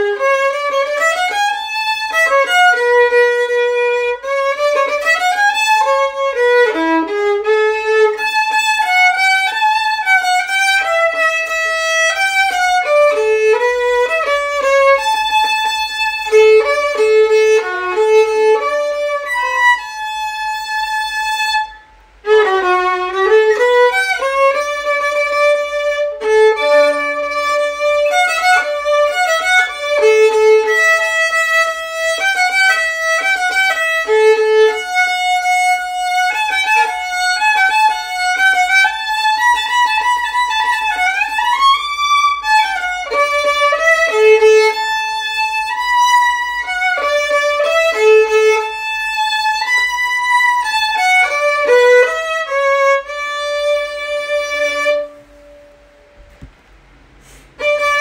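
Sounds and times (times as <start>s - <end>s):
violin melody: 0.0s - 56.5s, 57.1s - 58.0s.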